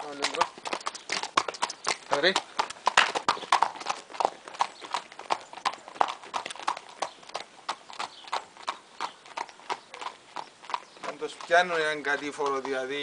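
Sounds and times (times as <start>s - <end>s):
horse hooves clip-clopping on dirt: 0.0s - 13.0s.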